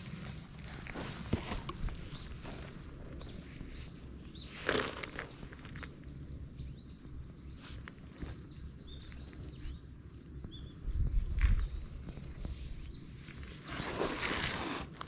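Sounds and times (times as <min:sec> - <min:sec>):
small bird chirping: 0:00.0 - 0:14.9.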